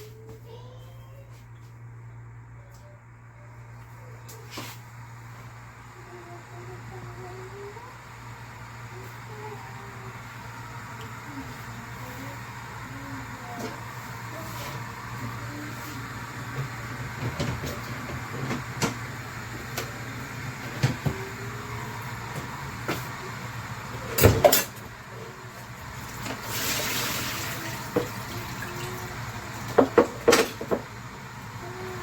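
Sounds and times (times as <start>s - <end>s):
kettle low hum: 0.0s - 32.0s.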